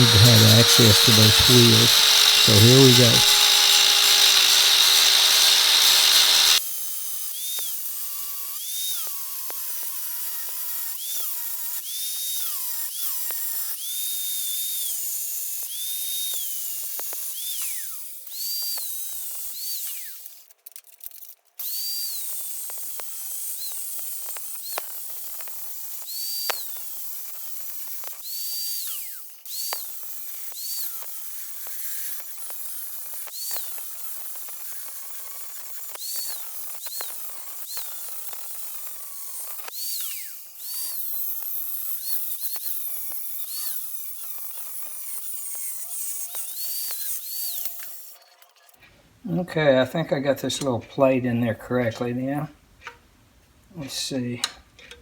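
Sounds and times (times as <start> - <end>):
power tool whine: 0.0 - 20.5, 21.6 - 48.4.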